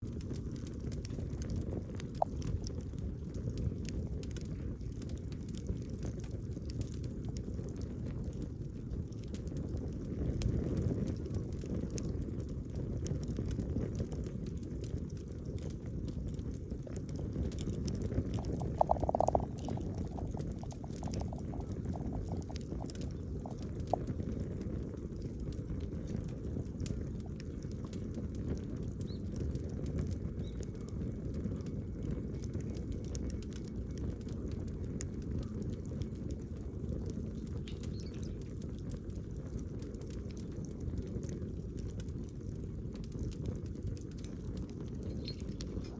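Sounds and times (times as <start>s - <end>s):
steady low rumble: 0.0s - 37.6s, 38.5s - 45.9s
campfire crackling and popping: 0.0s - 45.9s.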